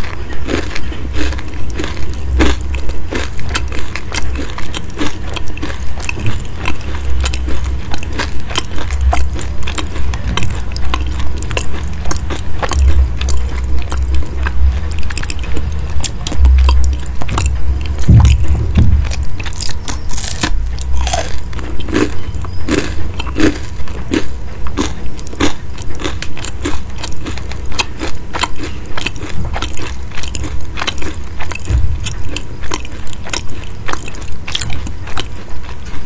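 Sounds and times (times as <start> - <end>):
person chewing crusty pastry: 0.0 - 36.0.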